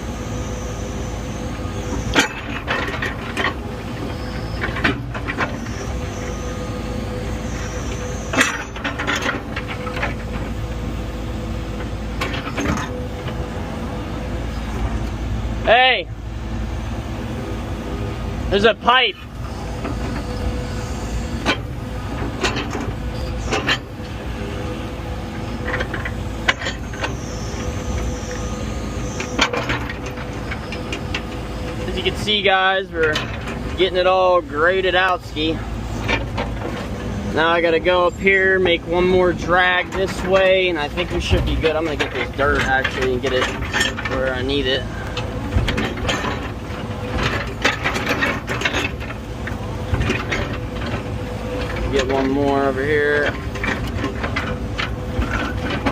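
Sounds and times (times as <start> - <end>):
earthmoving machine engine running: 0.0 - 55.9.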